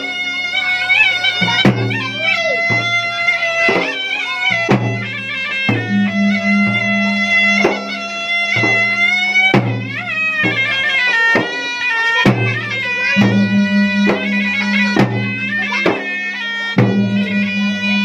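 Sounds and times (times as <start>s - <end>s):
shrill reed wind instrument: 0.0s - 18.0s
sharp drum strokes: 1.3s - 18.0s.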